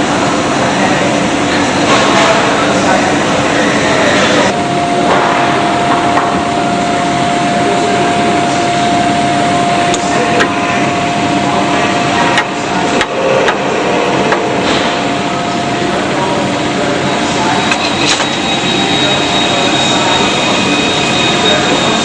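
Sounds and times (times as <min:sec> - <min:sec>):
machine tools running with whine: 0:00.0 - 0:22.0.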